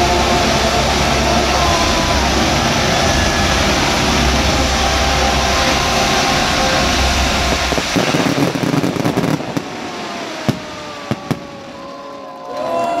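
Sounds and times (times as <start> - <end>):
sharp fireworks bangs: 0.0 - 12.3
fireworks crackling: 0.0 - 12.7.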